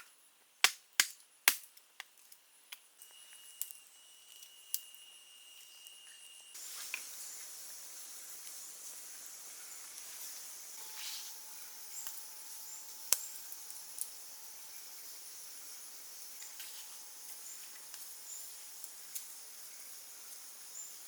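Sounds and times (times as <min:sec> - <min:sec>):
steady high hiss: 0:02.4 - 0:21.0.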